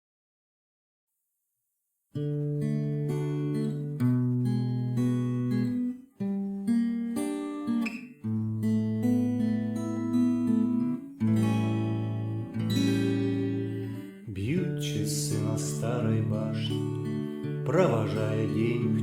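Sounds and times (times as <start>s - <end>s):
acoustic guitar strumming: 2.2s - 19.0s.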